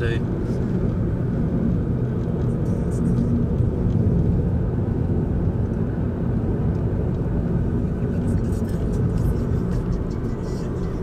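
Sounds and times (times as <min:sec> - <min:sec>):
car rumbling on the move: 0:00.0 - 0:11.0
faint engine drone: 0:00.0 - 0:11.0.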